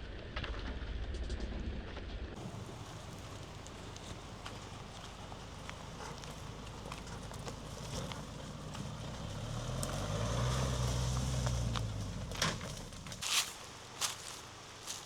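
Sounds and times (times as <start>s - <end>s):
truck engine hum: 2.4s - 15.0s.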